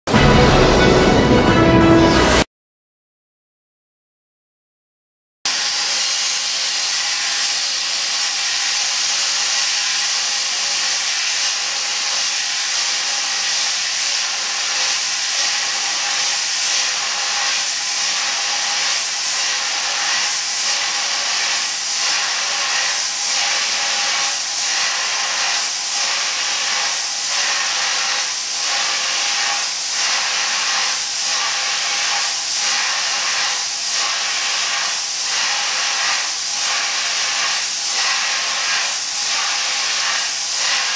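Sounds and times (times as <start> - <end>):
loud hiss of gas jet: 5.5 - 40.9.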